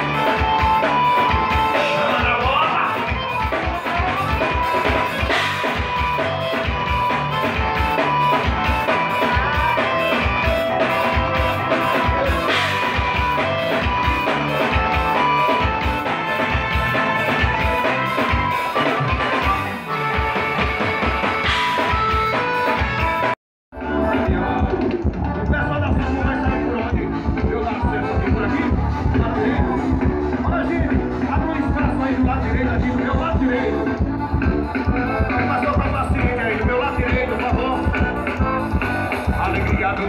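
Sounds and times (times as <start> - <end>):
drum kit beat: 0.0 - 40.0
electric guitar: 0.0 - 40.0.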